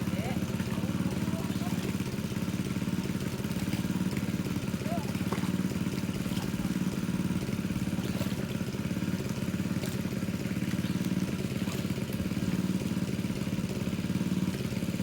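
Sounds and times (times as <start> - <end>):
small engine driving water pump: 0.0 - 15.0.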